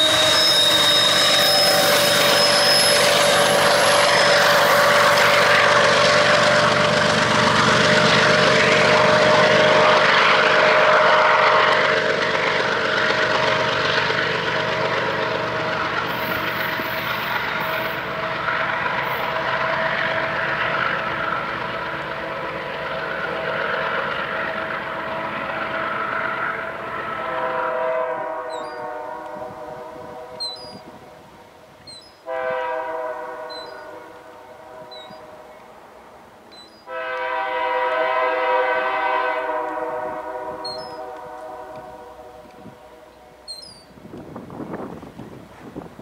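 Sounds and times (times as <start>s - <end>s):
diesel locomotive engine whine: 0.0s - 46.0s
train rumble: 0.0s - 46.0s.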